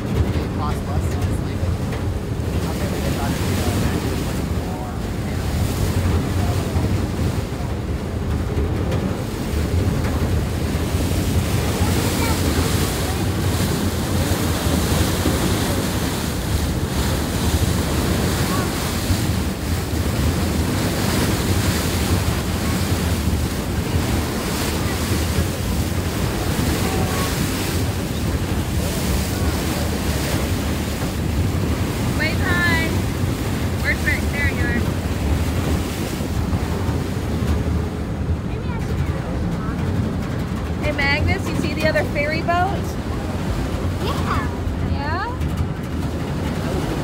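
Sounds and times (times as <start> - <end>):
water rushing along ship hull: 0.0 - 47.0
wind buffeting microphone: 0.0 - 47.0.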